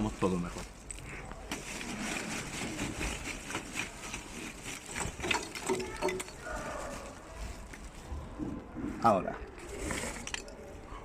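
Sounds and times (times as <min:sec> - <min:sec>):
charcoal clattering from a bag: 0:00.0 - 0:08.0, 0:09.6 - 0:10.6.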